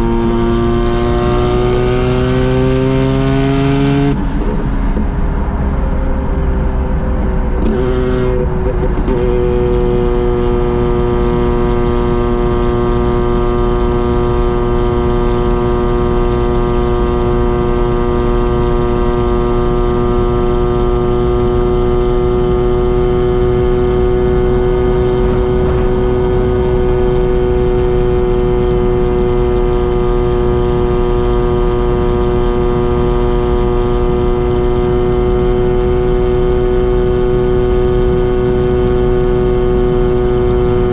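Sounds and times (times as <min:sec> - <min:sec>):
rotary engine droning: 0:00.0 - 0:40.9.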